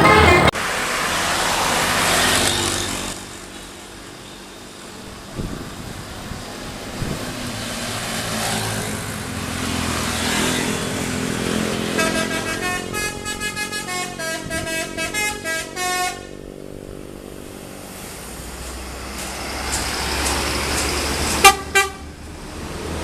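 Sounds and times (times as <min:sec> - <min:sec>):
bus driving past: 0:00.0 - 0:23.0
vehicle approaching: 0:00.0 - 0:23.0.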